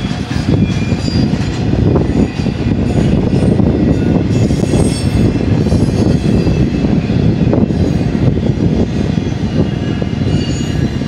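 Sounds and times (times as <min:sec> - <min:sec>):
train wheels rumbling on rail: 0:00.0 - 0:11.0
high wheel squeal: 0:00.3 - 0:08.0, 0:09.0 - 0:11.0.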